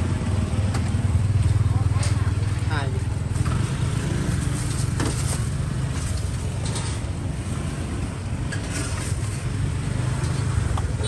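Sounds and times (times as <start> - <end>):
busy street rumble: 0.0 - 11.0.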